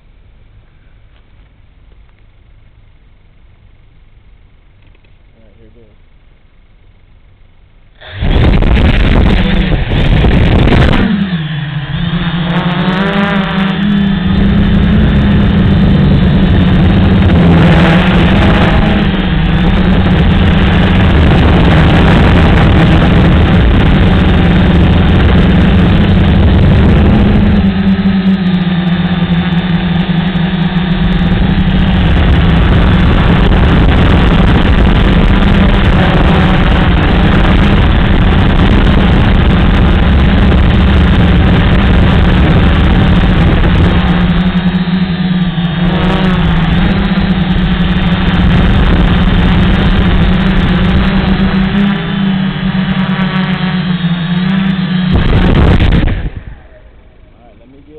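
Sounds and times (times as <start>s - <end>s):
quadcopter motors buzzing: 8.0s - 57.9s.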